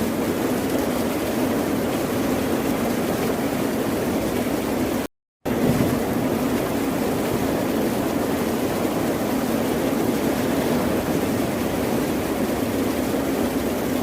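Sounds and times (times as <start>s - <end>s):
ocean surf: 0.0s - 14.0s.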